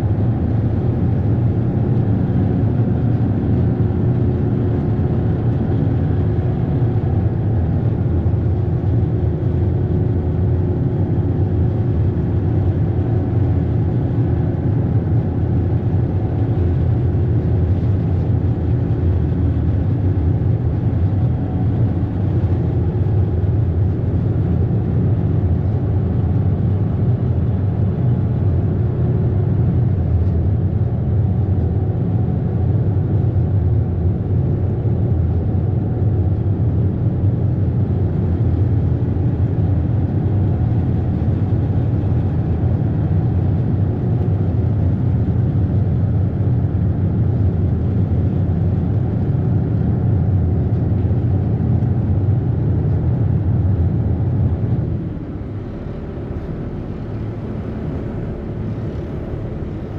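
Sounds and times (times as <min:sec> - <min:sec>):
ferry engine drone: 0:00.0 - 0:59.9.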